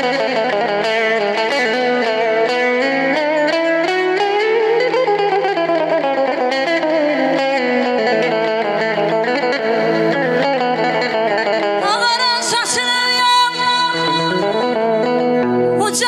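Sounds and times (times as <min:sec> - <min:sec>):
electric guitar melody: 0:00.0 - 0:16.0
live band music: 0:00.0 - 0:16.0.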